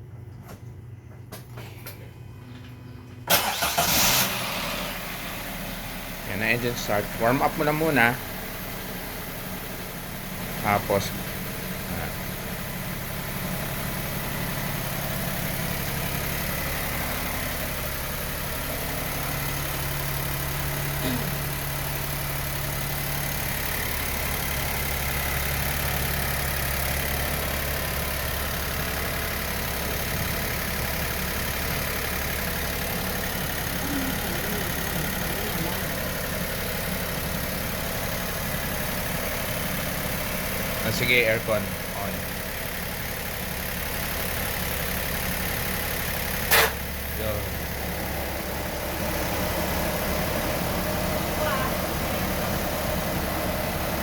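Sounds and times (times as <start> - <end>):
car engine idling: 3.2 - 54.0.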